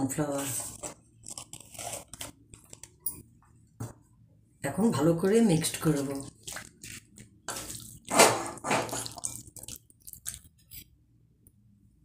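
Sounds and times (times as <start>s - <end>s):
spoon stirring wet batter: 0.0s - 4.2s, 4.8s - 11.0s.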